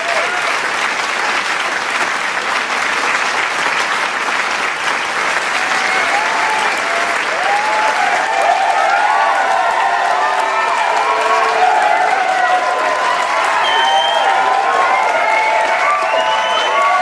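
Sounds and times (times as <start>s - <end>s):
cheering voices: 0.0s - 17.0s
crowd applauding: 0.0s - 17.0s.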